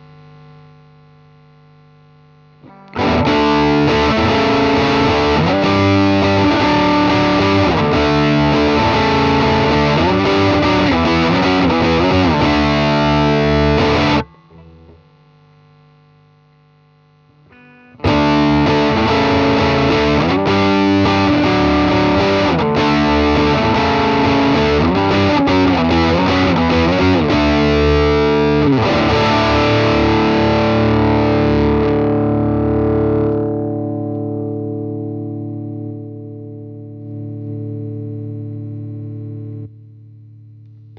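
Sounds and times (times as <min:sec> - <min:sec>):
distorted electric guitar riffing: 0:02.5 - 0:15.1, 0:17.3 - 0:40.9.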